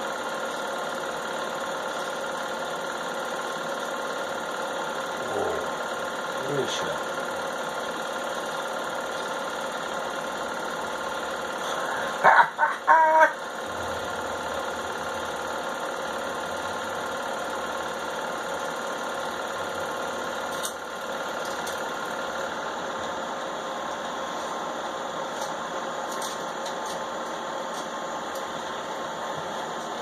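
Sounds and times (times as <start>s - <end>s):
film projector running: 0.0s - 30.0s.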